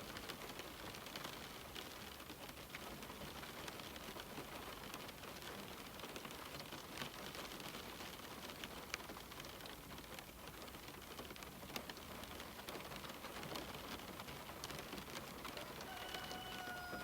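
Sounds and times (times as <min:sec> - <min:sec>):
rain on window glass: 0:00.0 - 0:17.0
raindrops ticking on pane: 0:00.0 - 0:17.0.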